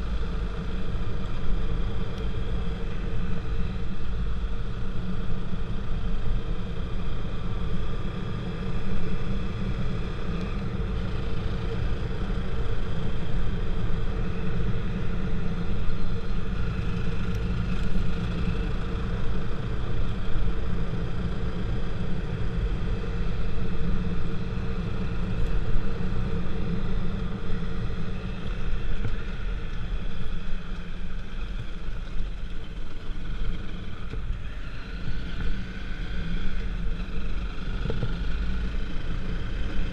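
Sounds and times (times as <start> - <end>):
faint steady whine: 0.0 - 39.9
vehicle engine rumbling: 0.0 - 39.9.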